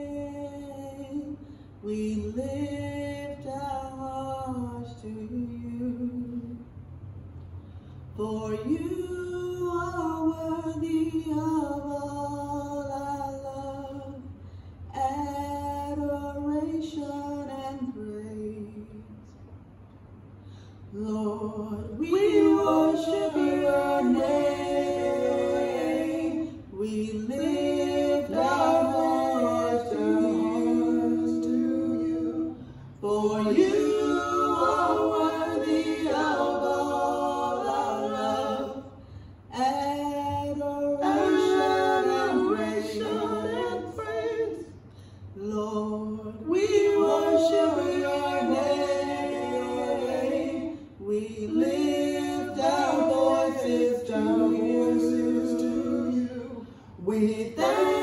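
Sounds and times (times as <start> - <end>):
people singing a cappella in harmony: 0.0 - 6.8, 8.1 - 19.6, 20.2 - 58.0.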